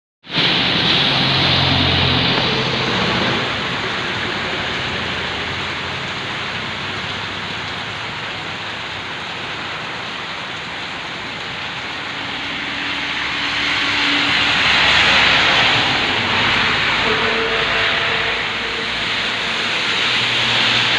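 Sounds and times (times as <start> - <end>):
heavy rain hissing: 0.3 - 20.9.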